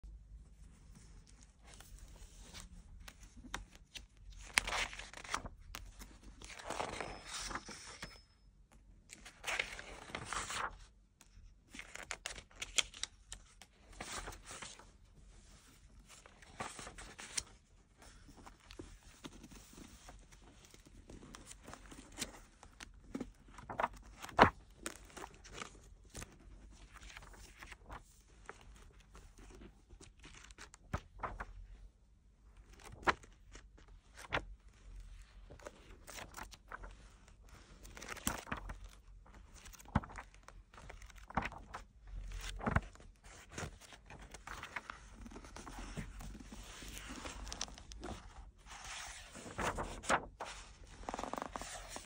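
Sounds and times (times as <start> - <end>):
page turning rustle: 0.7 - 8.3, 9.1 - 31.8, 32.6 - 52.0.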